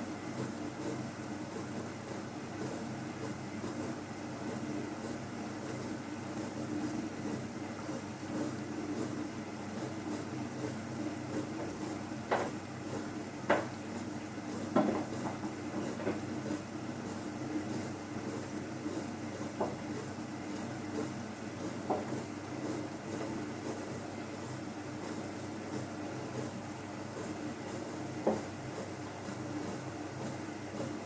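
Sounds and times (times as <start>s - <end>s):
washing machine motor hum: 0.0s - 31.0s.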